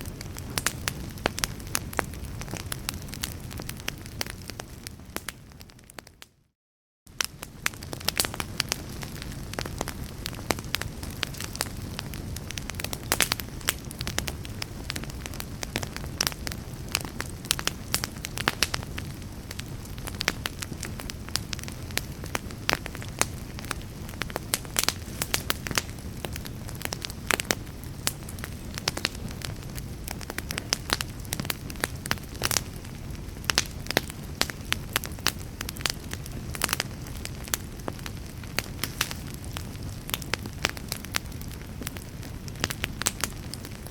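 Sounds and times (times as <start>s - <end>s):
fire flames rumbling: 0.0s - 6.2s, 7.1s - 43.9s
fire crackling and popping: 0.0s - 6.3s, 7.1s - 43.9s.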